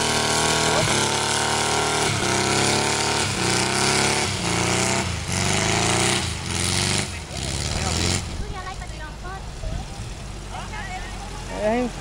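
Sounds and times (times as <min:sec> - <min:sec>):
dune buggy engine revving: 0:00.0 - 0:12.0.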